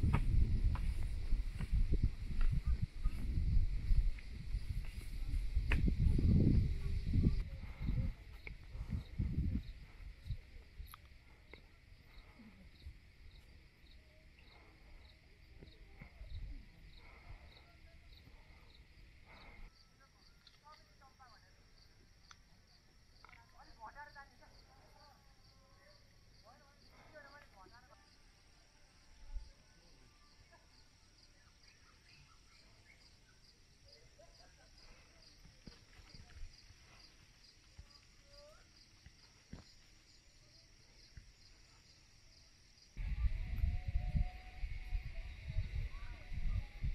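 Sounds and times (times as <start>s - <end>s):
insects chirping: 0.0s - 46.9s.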